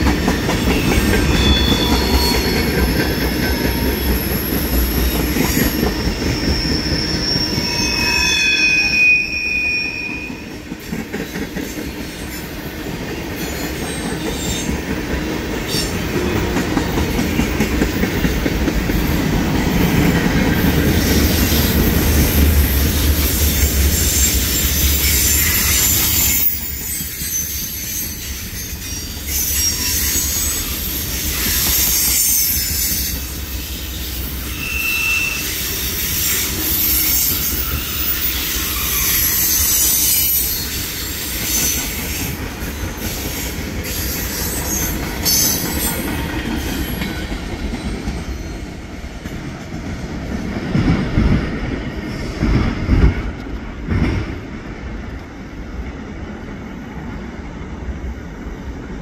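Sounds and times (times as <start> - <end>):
train wheels squealing: 0.0 - 49.1
low train rumble: 0.0 - 59.0.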